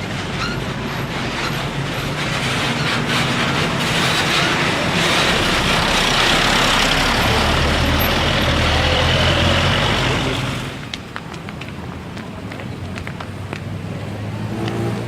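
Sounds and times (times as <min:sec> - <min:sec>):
bus passing close by: 0:00.0 - 0:11.1, 0:12.3 - 0:15.0.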